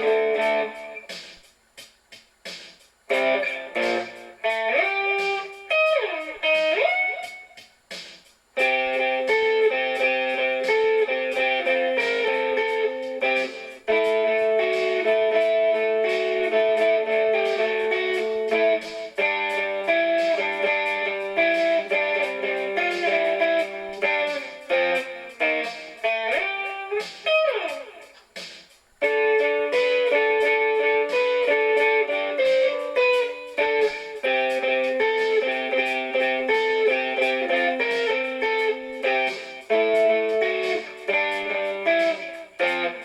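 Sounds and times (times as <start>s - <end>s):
electric guitar playing: 0.0s - 1.4s, 3.1s - 7.6s, 8.6s - 43.0s
steady beat: 0.0s - 43.0s.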